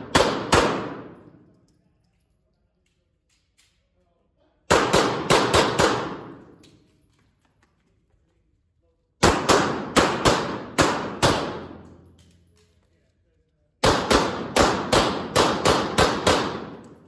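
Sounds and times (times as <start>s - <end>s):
pistol shots echoing indoors: 0.0s - 7.4s, 8.5s - 17.0s.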